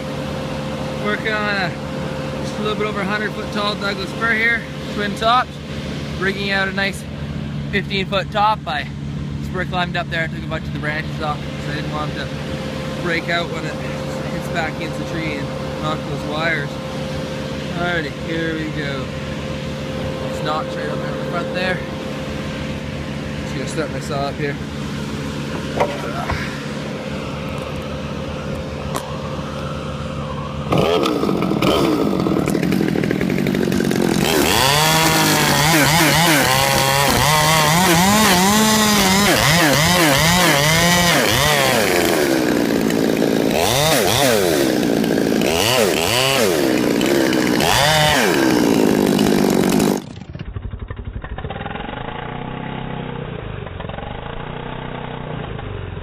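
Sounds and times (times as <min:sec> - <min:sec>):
chainsaw revving and cutting wood: 0:00.0 - 0:56.0.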